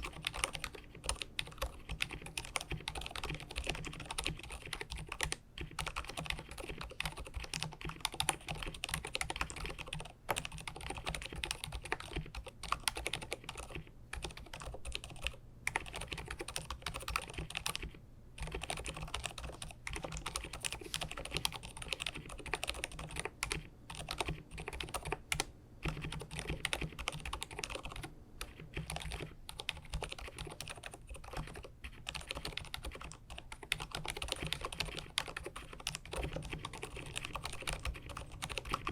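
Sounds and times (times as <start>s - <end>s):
soft muted keyboard typing: 0.0s - 38.9s.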